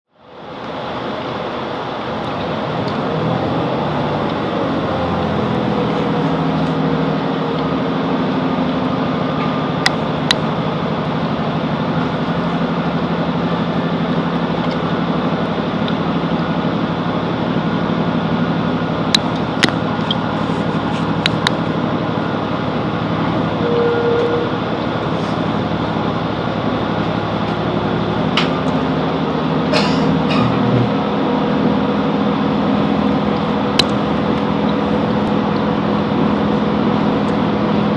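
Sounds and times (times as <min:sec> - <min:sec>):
diesel train engine running: 0:00.1 - 0:37.9.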